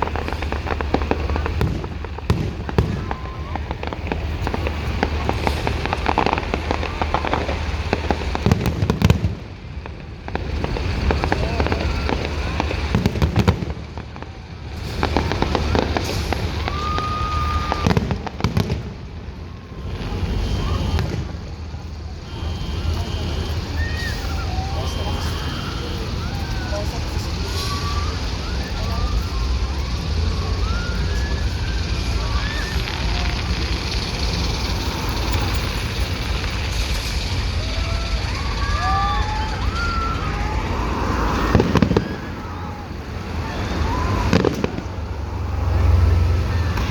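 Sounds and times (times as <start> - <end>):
fireworks bangs and crackles: 0.0 - 46.9
outdoor crowd noise: 0.0 - 46.9
rising whoops or whistles: 1.4 - 9.2, 11.0 - 13.7, 15.0 - 36.2, 36.8 - 46.9.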